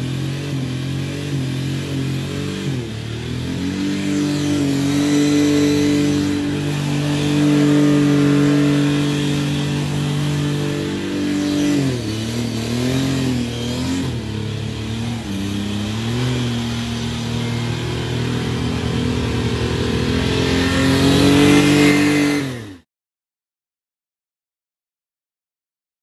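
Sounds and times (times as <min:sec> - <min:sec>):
golf cart engine revving: 0:00.0 - 0:22.8.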